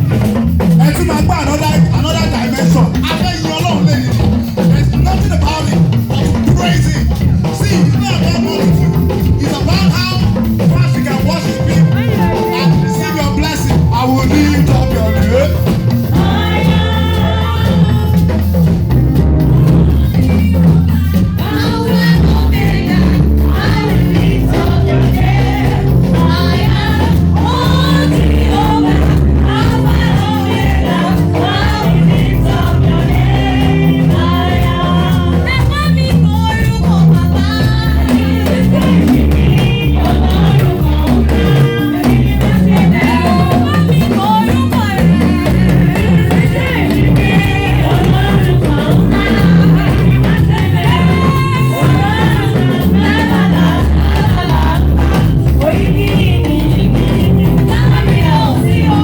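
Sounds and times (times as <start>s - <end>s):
band playing: 0.0s - 59.0s
voices singing: 0.0s - 59.0s.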